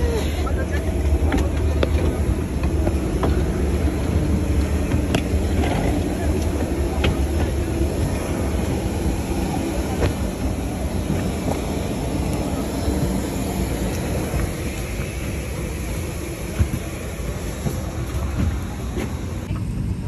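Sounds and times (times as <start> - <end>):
aircraft rumble and hiss: 0.0 - 20.0.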